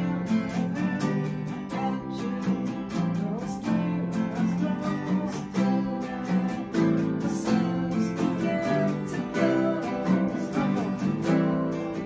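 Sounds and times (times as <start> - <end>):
acoustic guitars strumming: 0.0 - 12.0.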